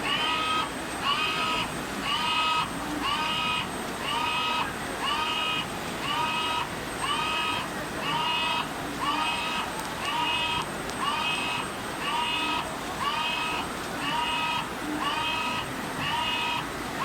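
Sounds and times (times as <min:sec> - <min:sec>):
cutting plotter motors whining: 0:00.0 - 0:17.0.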